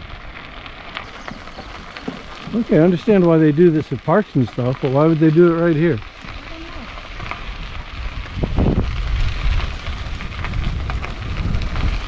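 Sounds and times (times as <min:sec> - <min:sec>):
bicycle tyres rolling on pavement: 0:00.0 - 0:12.0
wind buffeting microphone: 0:00.1 - 0:12.0.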